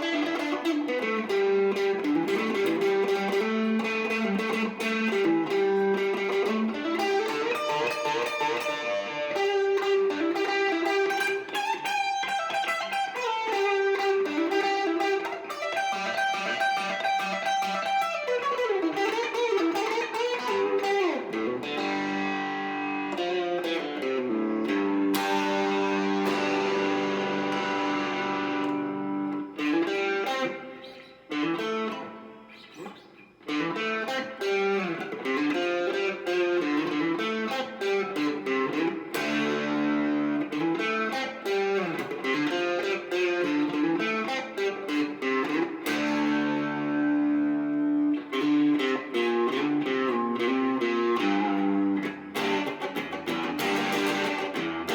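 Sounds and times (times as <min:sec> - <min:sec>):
electric guitar riffs: 0:00.0 - 0:54.9.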